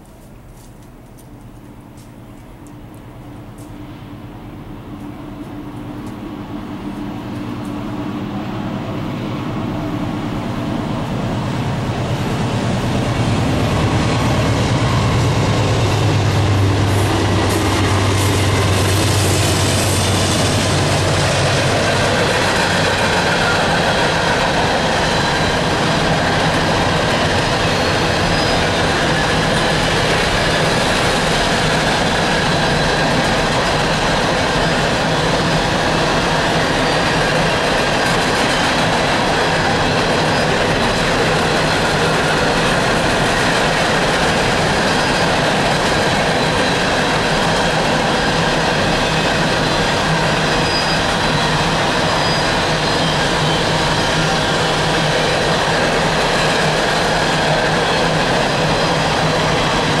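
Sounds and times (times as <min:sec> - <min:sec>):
diesel locomotive engine drone: 0:00.0 - 1:00.0
train cars rumbling on rails: 0:00.0 - 1:00.0.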